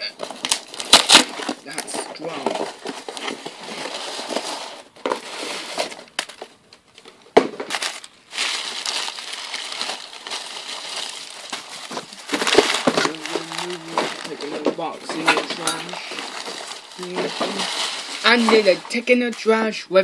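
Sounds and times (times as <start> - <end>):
cardboard and paper rustling: 0.1 - 19.6.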